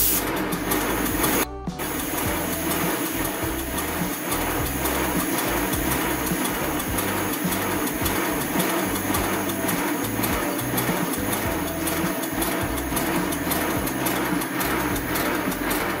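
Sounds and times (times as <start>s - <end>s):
steam locomotive exhaust beat: 0.0s - 16.0s
valve-gear clatter: 0.0s - 16.0s.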